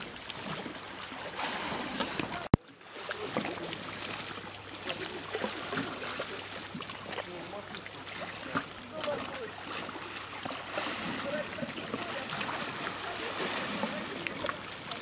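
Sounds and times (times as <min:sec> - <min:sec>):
sea water sloshing and splashing: 0:00.0 - 0:15.0.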